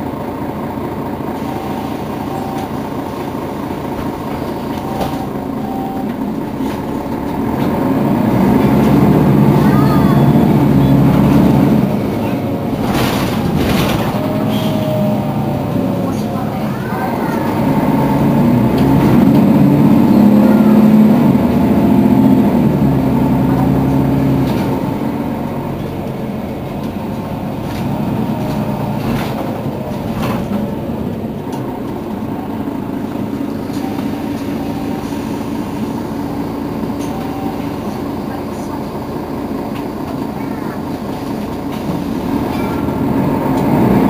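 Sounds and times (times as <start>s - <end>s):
bus diesel engine idling: 0.0s - 44.0s.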